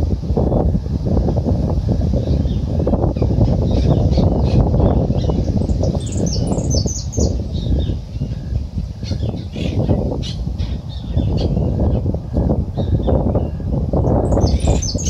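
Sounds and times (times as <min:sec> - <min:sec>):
steady low rumble: 0:00.0 - 0:14.8
small birds chirping: 0:02.2 - 0:15.0.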